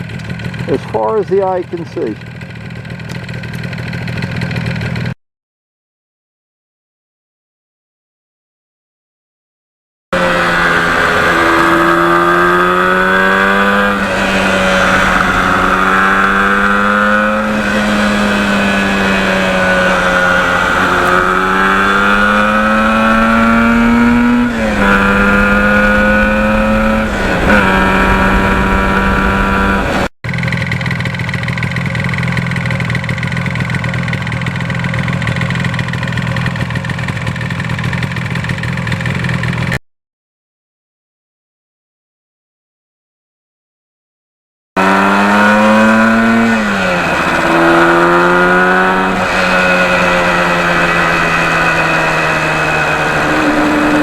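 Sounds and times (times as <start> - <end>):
two-stroke engine accelerating: 0.0 - 5.2, 10.2 - 39.8, 44.8 - 54.0.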